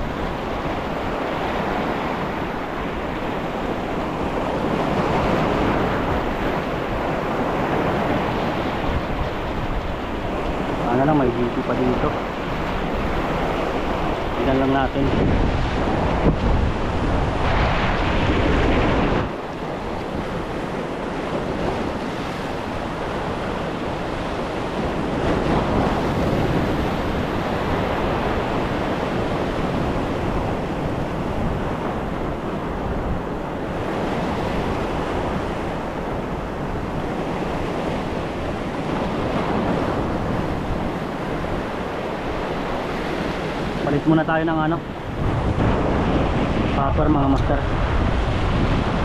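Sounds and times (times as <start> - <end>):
surf breaking over rocks: 0.0 - 49.0
wind rumble on microphone: 0.0 - 49.0.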